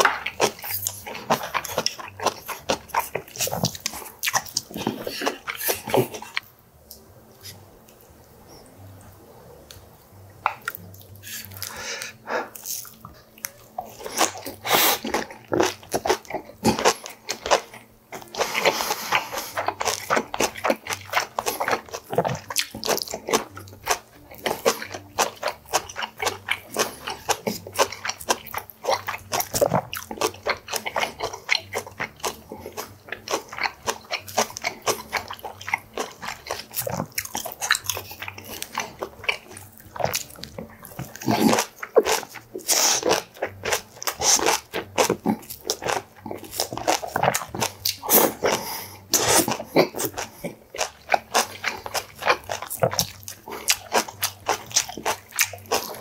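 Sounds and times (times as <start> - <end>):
crisp crunching of cabbage: 0.0 - 6.4, 12.6 - 56.0.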